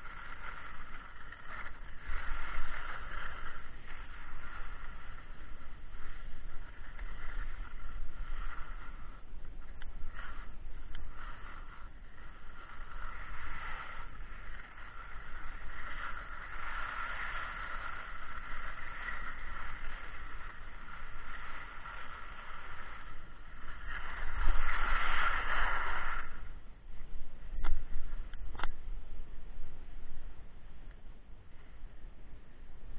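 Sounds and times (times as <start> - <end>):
skis scraping over snow: 0.0 - 30.3
wind rumble on microphone: 0.0 - 32.9.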